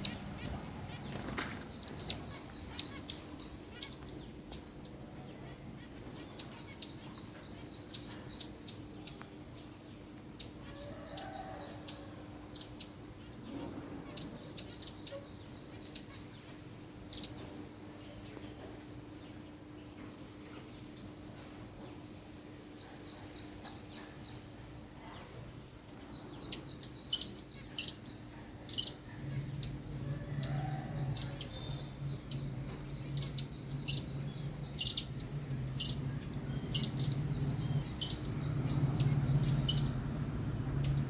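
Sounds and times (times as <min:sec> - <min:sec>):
faint steady hum: 0:00.0 - 0:41.0
small birds chirping: 0:00.0 - 0:41.0.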